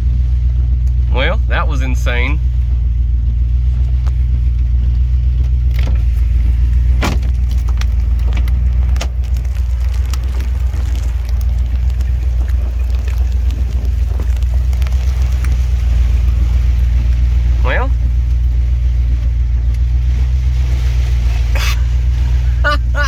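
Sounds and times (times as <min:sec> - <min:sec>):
low rumble in vehicle cabin: 0:00.0 - 0:23.0
hailstones striking vehicle: 0:00.1 - 0:23.0.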